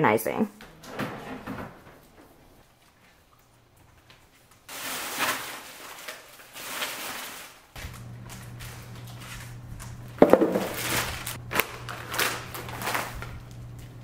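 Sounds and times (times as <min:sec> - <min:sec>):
plastic wrapping rustling: 0:01.7 - 0:14.0.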